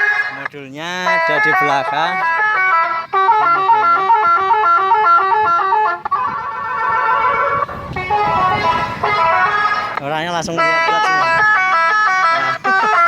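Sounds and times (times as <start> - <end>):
motorcycle electronic horn playing a tune: 1.1 - 10.0, 10.6 - 13.0.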